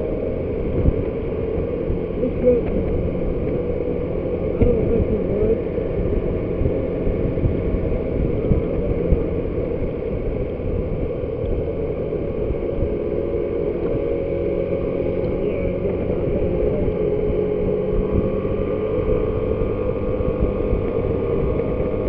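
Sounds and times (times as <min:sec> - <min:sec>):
motor scooter engine drone: 0:00.0 - 0:22.0
road rumble: 0:00.0 - 0:22.0
wind noise on microphone: 0:00.0 - 0:22.0.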